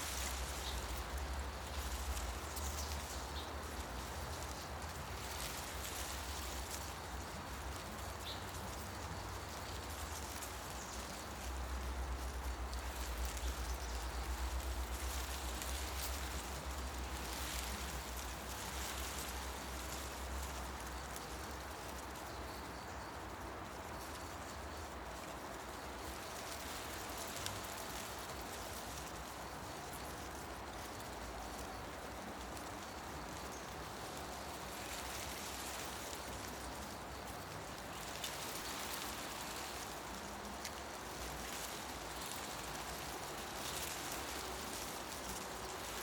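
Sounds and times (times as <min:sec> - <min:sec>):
wind rustling tree leaves: 0:00.0 - 0:46.0.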